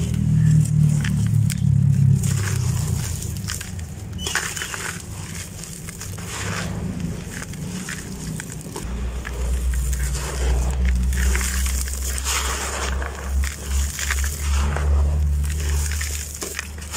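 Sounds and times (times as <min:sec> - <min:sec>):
hands sifting dry dirt: 0:00.0 - 0:16.9
low rumble: 0:00.0 - 0:16.9.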